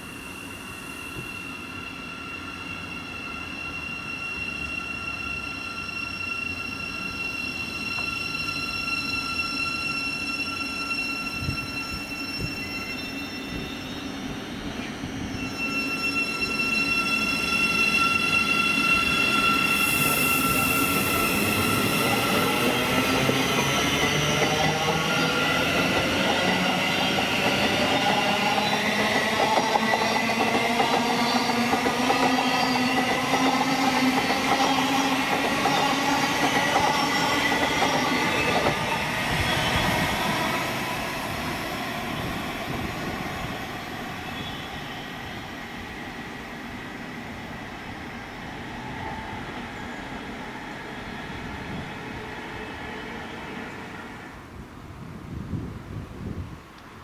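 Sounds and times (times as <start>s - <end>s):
shifting multi-tone whine: 0.0s - 54.3s
train rumbling past: 0.0s - 56.8s.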